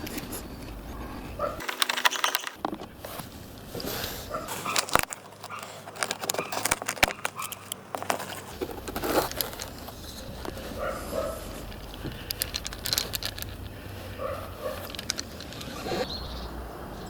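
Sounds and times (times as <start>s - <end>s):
material crinkling: 1.5s - 16.0s.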